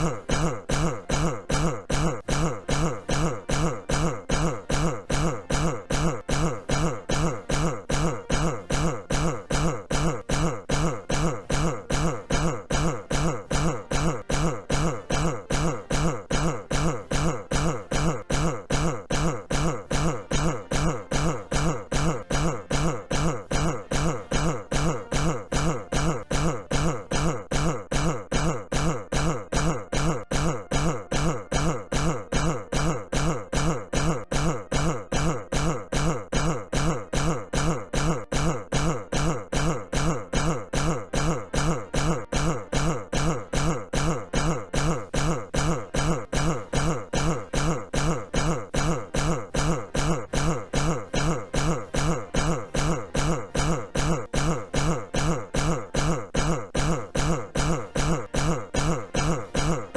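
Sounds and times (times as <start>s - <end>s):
man coughing: 0.0s - 59.9s.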